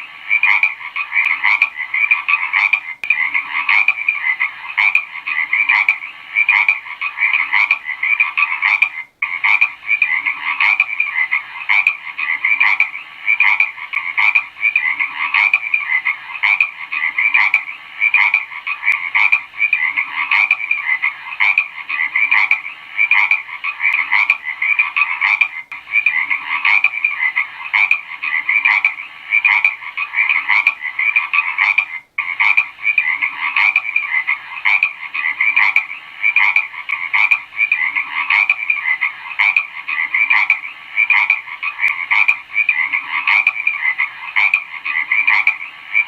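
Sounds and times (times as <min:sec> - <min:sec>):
frogs croaking: 0:00.0 - 0:46.0.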